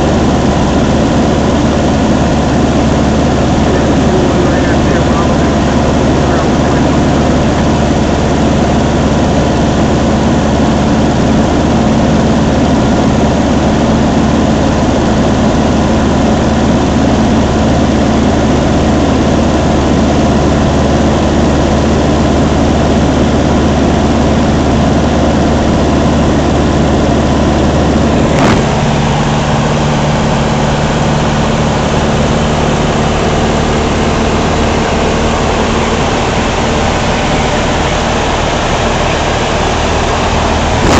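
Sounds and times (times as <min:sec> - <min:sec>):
light plane engine droning: 0:00.0 - 0:40.9.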